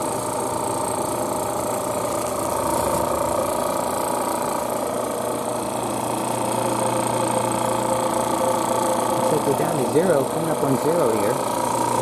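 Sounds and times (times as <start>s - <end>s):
machine running with steady hum: 0.0s - 12.0s.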